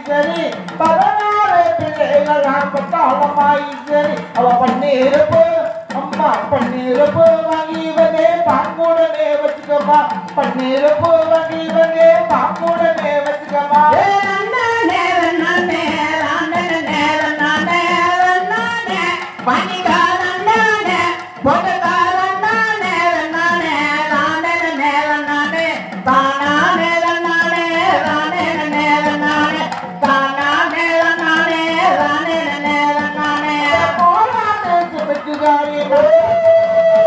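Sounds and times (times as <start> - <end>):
drum accompaniment: 0.0 - 37.0
folk song singing: 0.0 - 37.0.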